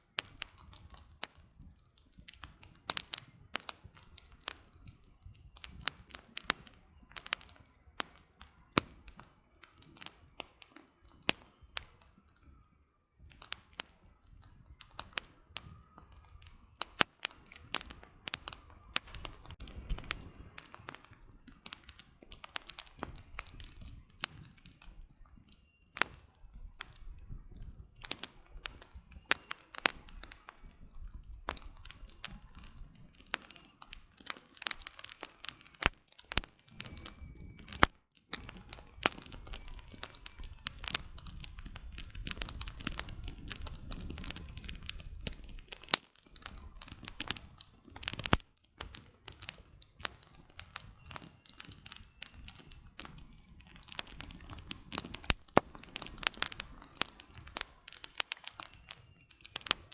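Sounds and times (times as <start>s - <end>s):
firewood crackling and popping: 0.0s - 59.9s
low rumble of flame: 0.0s - 59.9s.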